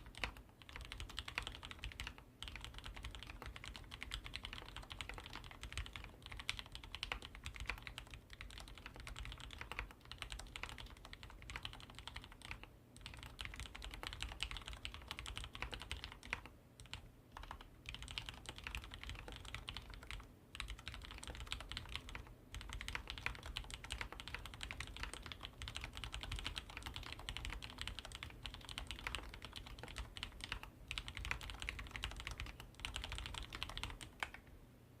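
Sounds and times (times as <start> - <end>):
fast mechanical keyboard typing: 0.0 - 34.4.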